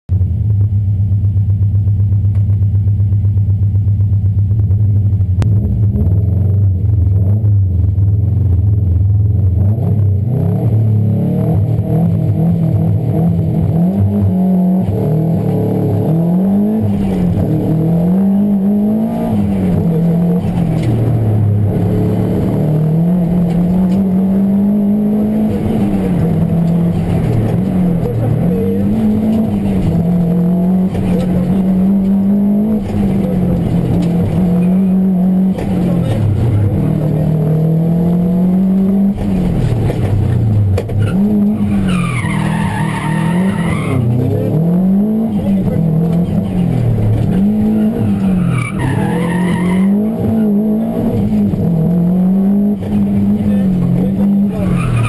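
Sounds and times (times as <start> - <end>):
rally car engine revving: 0.1 - 55.0.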